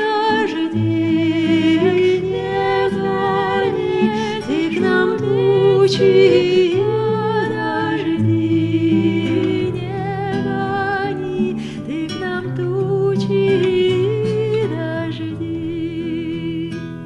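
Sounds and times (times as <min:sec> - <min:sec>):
voices singing a folk round: 0:00.0 - 0:16.4.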